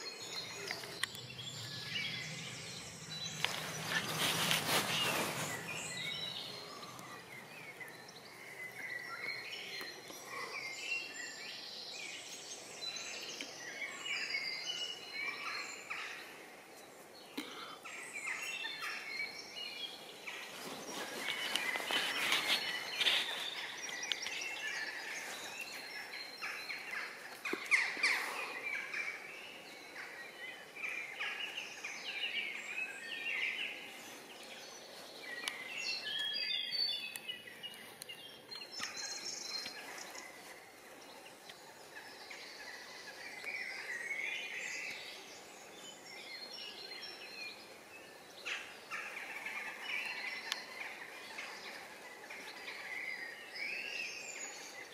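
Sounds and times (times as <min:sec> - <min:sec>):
faint outdoor background: 0:00.0 - 0:54.9
songbirds singing: 0:00.0 - 0:54.9.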